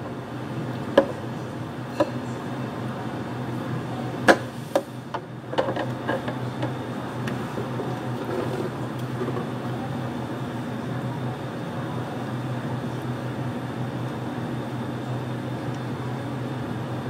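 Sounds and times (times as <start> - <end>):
low hum of equipment: 0.0 - 17.0.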